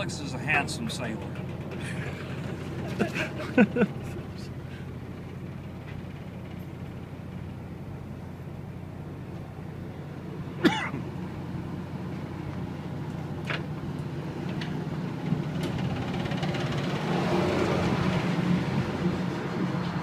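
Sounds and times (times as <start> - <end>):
tugboat engine humming: 0.0 - 20.0.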